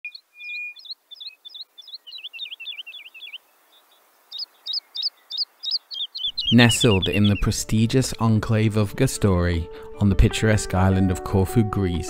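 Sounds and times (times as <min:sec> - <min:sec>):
songbird chirping: 0:00.1 - 0:12.0.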